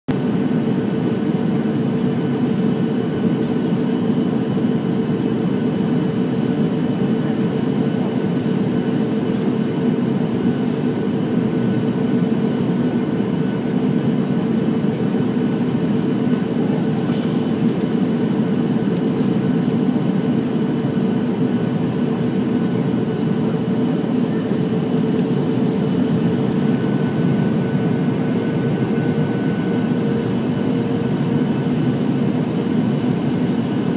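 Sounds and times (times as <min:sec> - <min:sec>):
jet engine and airflow noise: 0:00.1 - 0:33.9.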